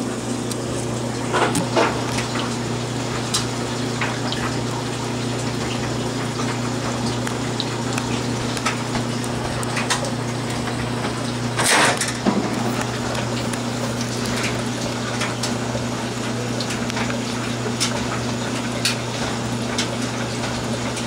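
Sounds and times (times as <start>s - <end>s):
aquarium pump and water flow: 0.0s - 21.0s.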